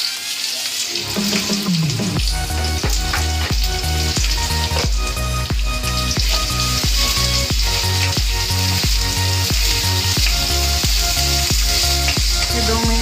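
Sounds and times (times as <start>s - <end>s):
onions sizzling in oil: 0.0s - 13.0s
background music with beat: 1.0s - 13.0s.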